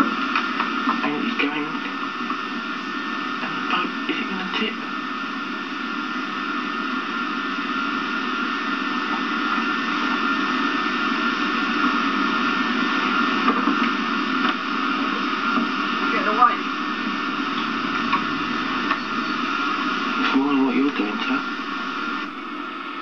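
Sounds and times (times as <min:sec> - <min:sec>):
videotape hiss and hum: 0:00.0 - 0:23.0.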